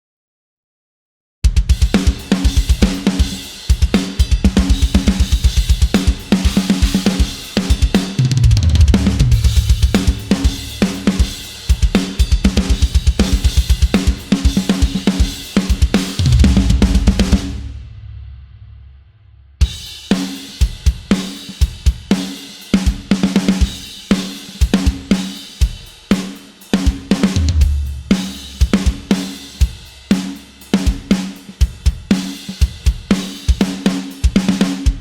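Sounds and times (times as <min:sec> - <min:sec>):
acoustic drum kit groove: 0:01.4 - 0:18.1, 0:19.6 - 0:35.0.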